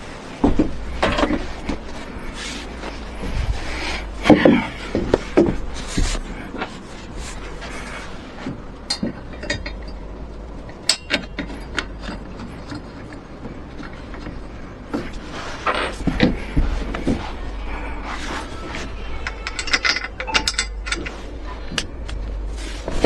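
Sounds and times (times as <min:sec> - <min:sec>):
steady low hum: 0:00.0 - 0:23.0
hand tools clicking and clattering: 0:00.4 - 0:17.2, 0:18.2 - 0:23.0
rattling: 0:00.4 - 0:23.0.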